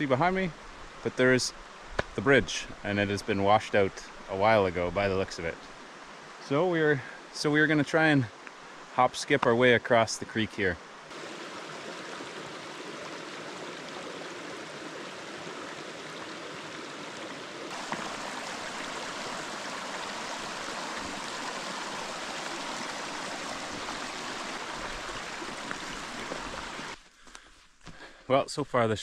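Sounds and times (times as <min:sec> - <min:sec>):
creek running over cobbles: 0:00.0 - 0:28.0.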